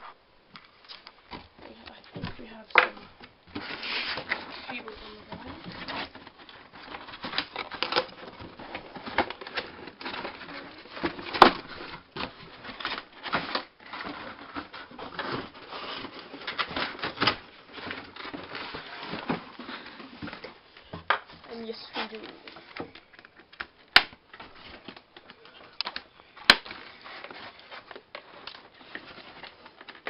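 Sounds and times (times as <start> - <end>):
cardboard packaging rustling: 0.0 - 30.0.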